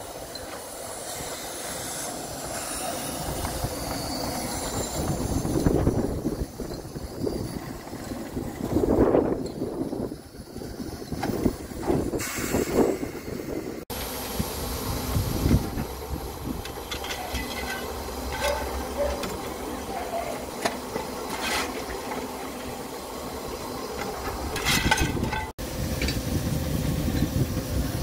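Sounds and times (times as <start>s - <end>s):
steam hissing: 0.0s - 28.0s.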